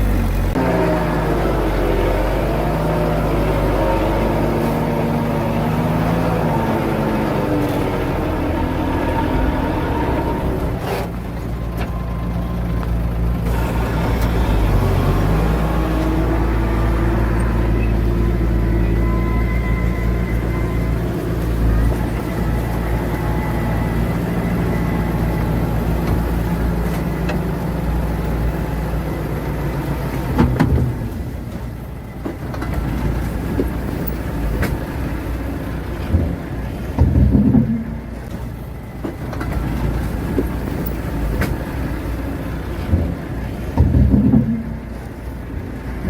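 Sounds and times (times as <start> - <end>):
heavy machinery diesel engine: 0.0 - 46.0.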